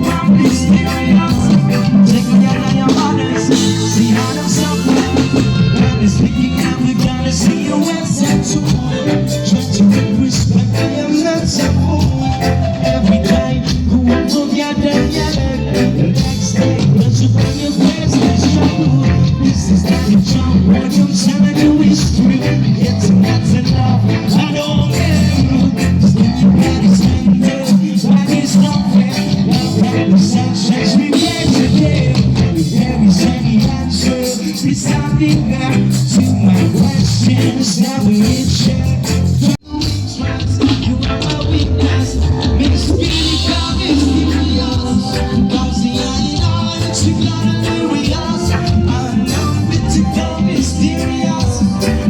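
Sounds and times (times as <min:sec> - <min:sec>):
live band playing amplified music: 0:00.0 - 0:52.0
person singing: 0:00.0 - 0:52.0.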